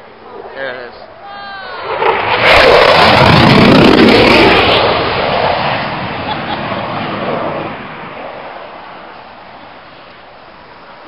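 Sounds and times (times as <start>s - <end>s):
jet engine roar overhead: 0.0s - 11.0s.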